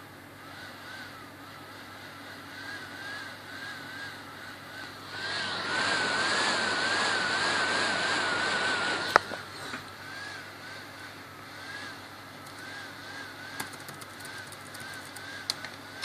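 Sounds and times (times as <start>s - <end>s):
laptop fan whine wavering: 0.0s - 16.0s
fan rush of air: 1.4s - 16.0s.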